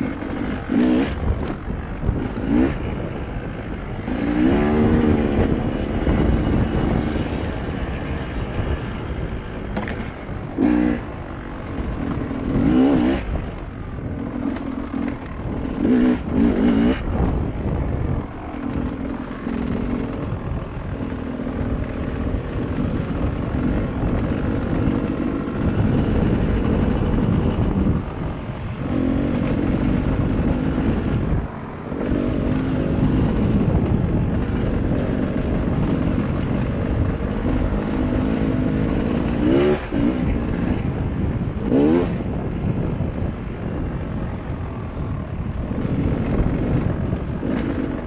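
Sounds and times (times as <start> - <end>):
dirt bike engine running: 0.0 - 48.0
wind rumbling on microphone: 0.0 - 48.0.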